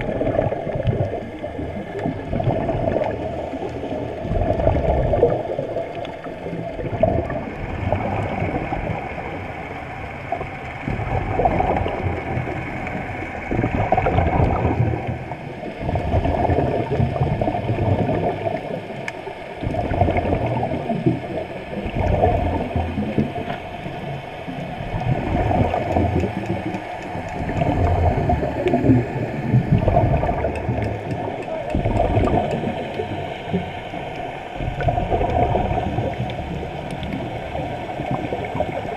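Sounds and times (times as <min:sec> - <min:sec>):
bubbles gurgling underwater: 0:00.0 - 0:38.9.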